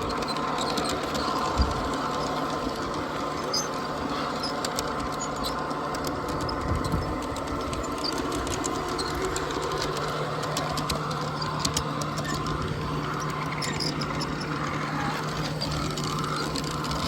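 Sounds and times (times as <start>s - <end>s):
fast fine clicking: 0.0s - 17.0s
machine humming: 0.0s - 17.0s.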